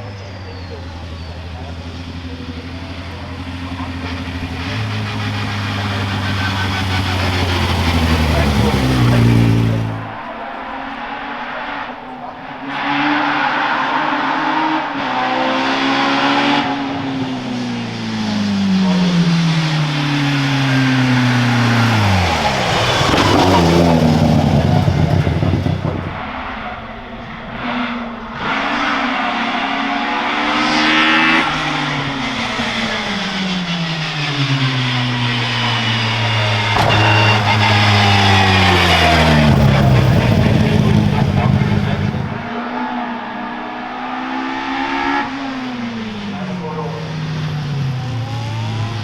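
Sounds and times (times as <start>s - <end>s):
race car engines passing: 0.0s - 49.0s.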